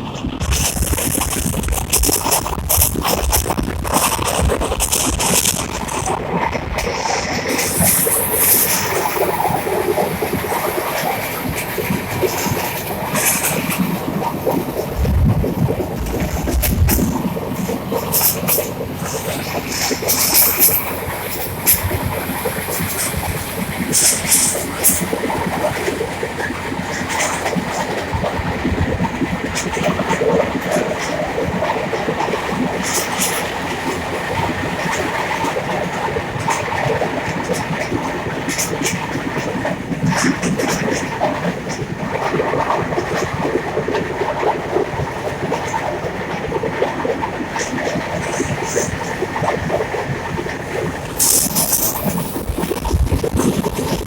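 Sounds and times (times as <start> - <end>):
train rumbling along track: 0.0 - 54.0
wheels clicking and rattling: 0.0 - 54.0.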